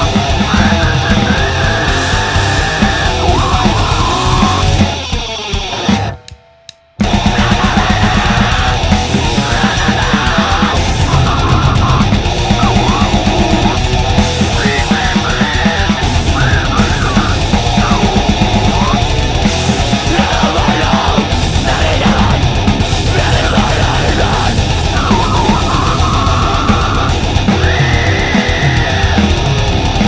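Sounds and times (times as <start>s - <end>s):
harsh yelled vocals: 0.0s - 6.2s, 7.0s - 30.0s
fast drums: 0.0s - 6.4s, 7.0s - 30.0s
distorted guitars: 0.0s - 30.0s.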